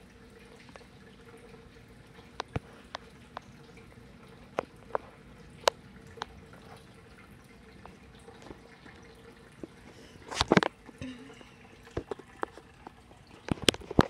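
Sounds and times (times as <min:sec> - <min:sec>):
sharp drips: 0:00.0 - 0:14.0.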